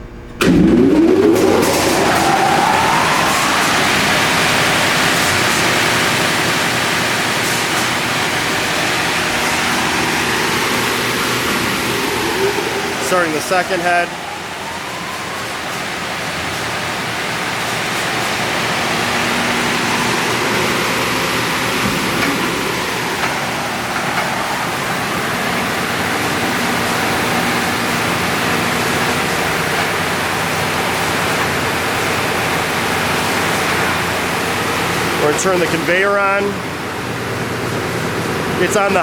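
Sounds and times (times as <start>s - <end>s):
belt sander whirring: 0.0s - 36.0s.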